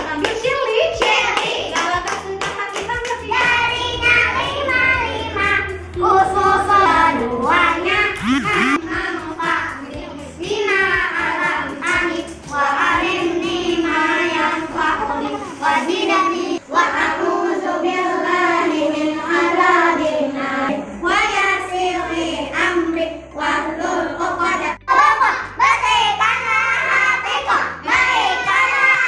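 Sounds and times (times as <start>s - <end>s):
children singing a prayer: 0.0s - 29.0s.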